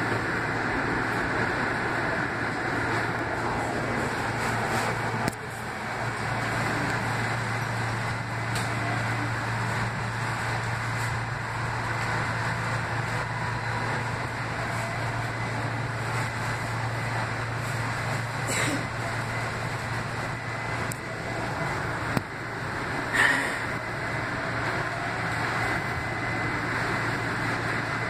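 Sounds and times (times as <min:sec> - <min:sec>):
light rail cabin hum: 0:00.0 - 0:28.0
rolling rumble: 0:00.0 - 0:28.0.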